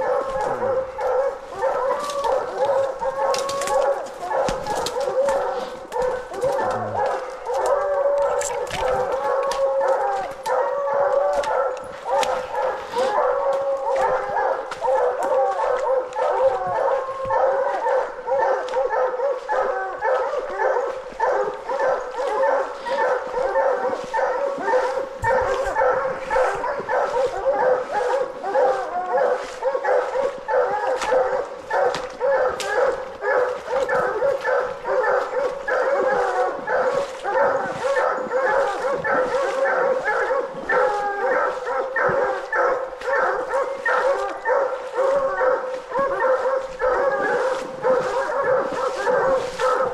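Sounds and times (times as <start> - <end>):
dogs barking: 0.0 - 49.9.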